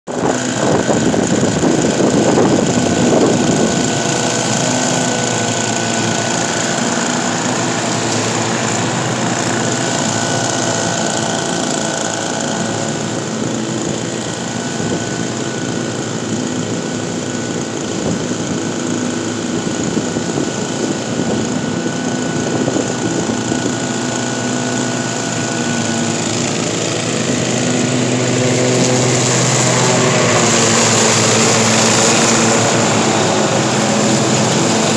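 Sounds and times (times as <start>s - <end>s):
lawn mower engine running: 0.0s - 34.9s
mower blades mulching leaves: 0.1s - 34.9s.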